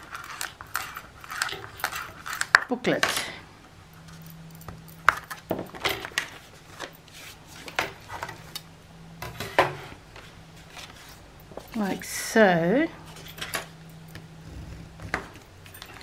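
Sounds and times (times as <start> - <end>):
faint low hum: 1.8 - 7.1, 8.0 - 16.0.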